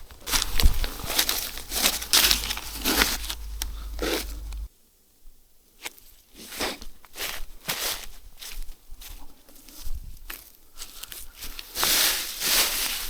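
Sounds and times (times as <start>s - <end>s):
dry material crinkling and rustling: 0.0s - 4.7s, 7.1s - 13.0s.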